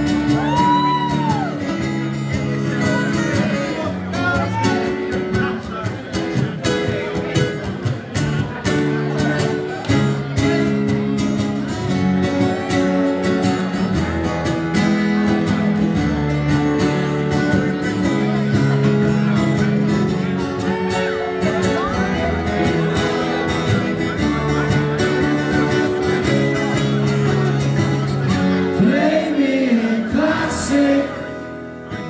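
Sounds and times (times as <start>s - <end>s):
acoustic guitars strumming: 0.0s - 32.0s.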